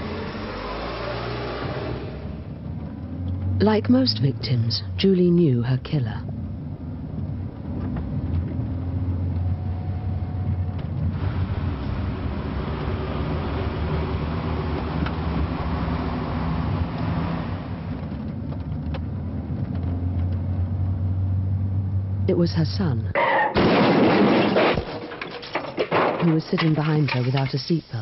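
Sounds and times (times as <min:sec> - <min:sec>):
road noise inside car: 0:00.0 - 0:23.4
car engine drone: 0:00.0 - 0:24.5.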